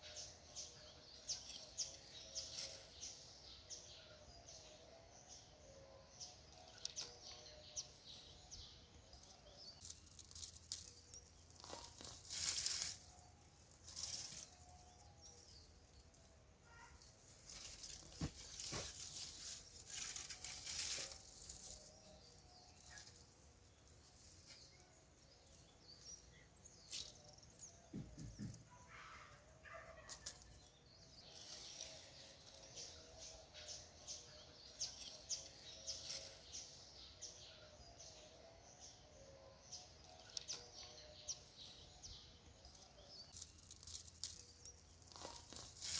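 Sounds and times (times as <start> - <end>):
soil scraping and plants rustling: 0.0 - 5.3, 6.2 - 45.9
faint birdsong: 0.0 - 45.9.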